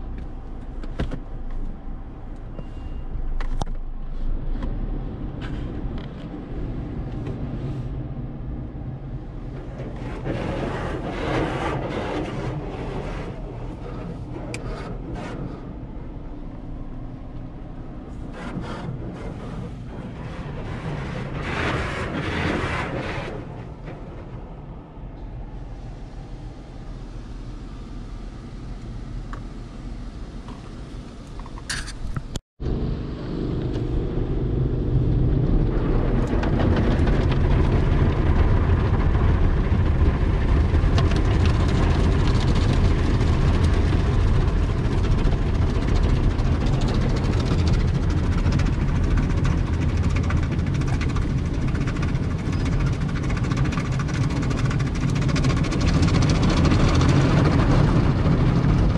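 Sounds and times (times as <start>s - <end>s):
car wash machinery rumble: 0.0s - 58.9s.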